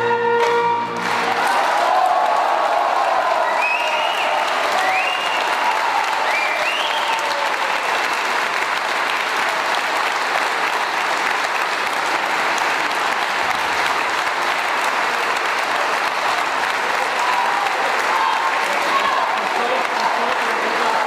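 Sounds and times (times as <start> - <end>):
large audience applauding: 0.4 - 21.0.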